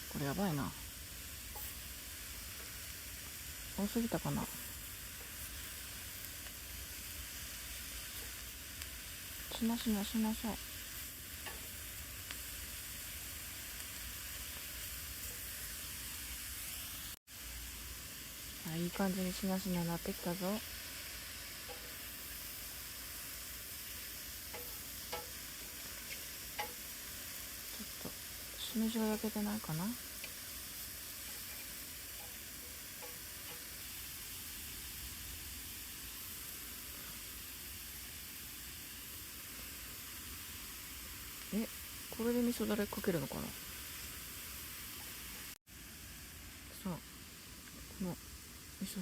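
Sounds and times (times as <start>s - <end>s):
vegetables sizzling in a frying pan: 0.0s - 49.0s.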